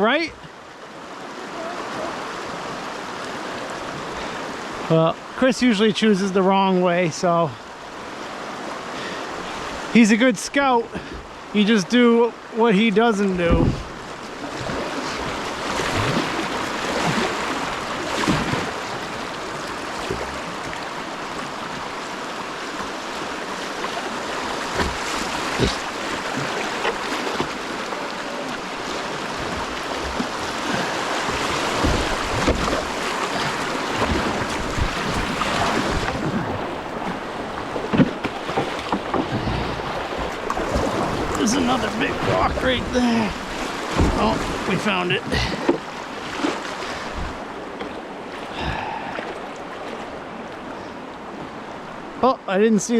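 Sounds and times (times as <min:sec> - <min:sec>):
water splashes: 0:00.0 - 0:52.4
river rushing: 0:00.0 - 0:52.9.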